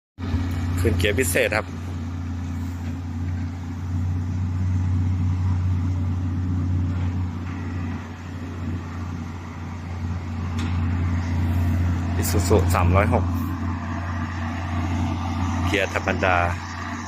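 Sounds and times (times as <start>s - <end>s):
truck diesel engine droning: 0.2s - 17.0s.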